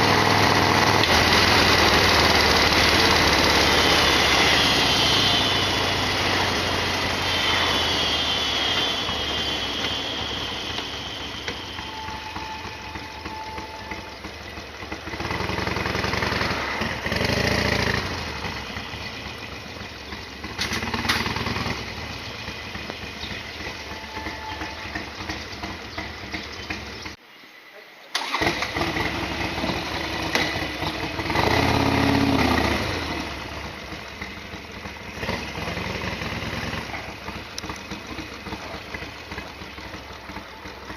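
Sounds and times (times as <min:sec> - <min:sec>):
motorcycle engine revving: 0:00.0 - 0:27.2, 0:28.2 - 0:40.9.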